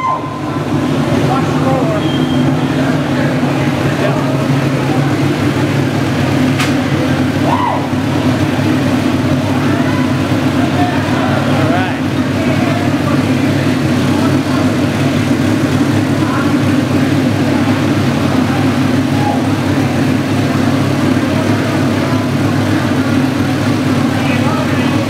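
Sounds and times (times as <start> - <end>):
race car engine running steadily: 0.0 - 25.0.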